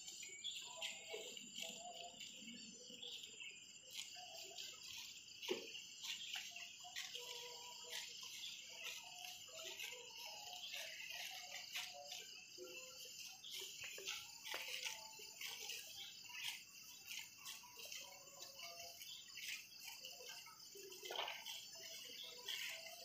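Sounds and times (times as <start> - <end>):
insects and birds chirping: 0.0 - 23.0
insects hissing: 0.0 - 23.0.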